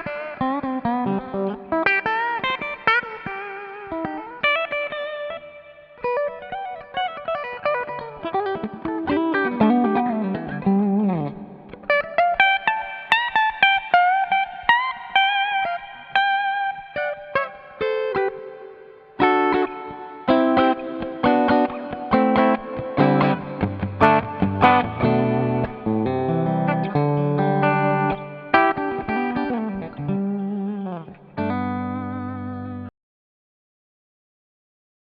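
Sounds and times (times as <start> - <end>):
electric guitar lead phrases: 0.0 - 32.9.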